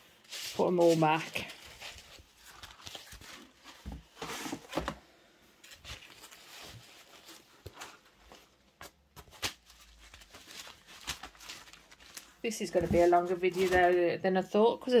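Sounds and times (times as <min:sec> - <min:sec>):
canvases rustling and scraping: 0:00.0 - 0:14.2.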